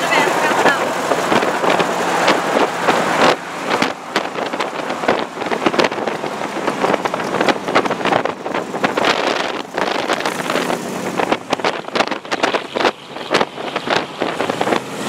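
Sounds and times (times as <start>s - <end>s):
road and vehicle noise: 0.0s - 15.0s
wind buffeting microphone: 0.0s - 15.0s.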